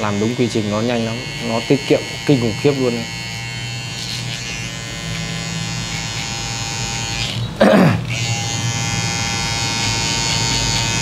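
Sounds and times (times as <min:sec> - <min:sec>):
electric hair trimmer buzzing: 0:00.0 - 0:11.0.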